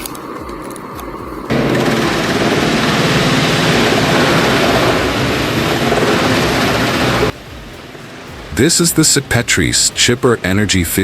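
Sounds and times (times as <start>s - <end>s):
heavy machinery running: 1.5s - 11.0s.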